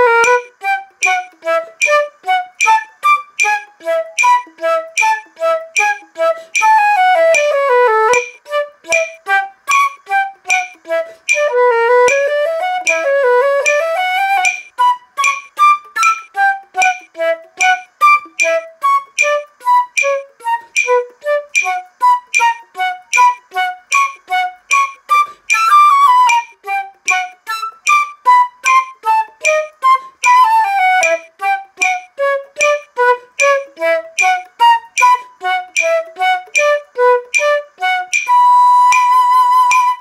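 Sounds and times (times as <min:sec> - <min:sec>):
flute playing tongued notes: 0:00.0 - 0:40.0.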